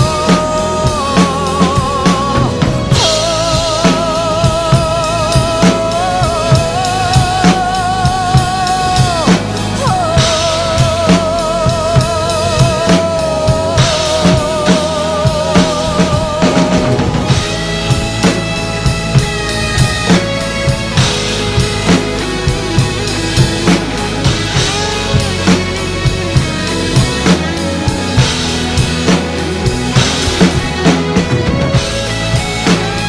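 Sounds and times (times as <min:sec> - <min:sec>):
drum kit playing a beat: 0:00.0 - 0:33.0
recorded instrumental band track: 0:00.0 - 0:33.0.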